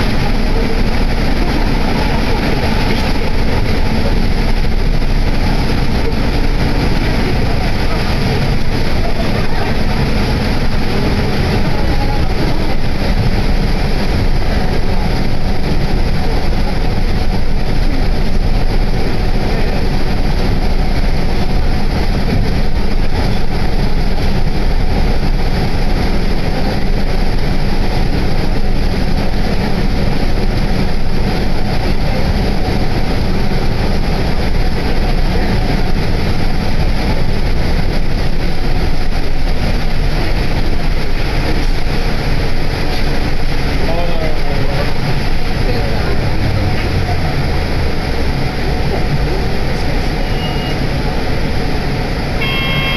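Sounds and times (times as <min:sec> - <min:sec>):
bus running rumble with hiss: 0:00.0 - 0:52.9.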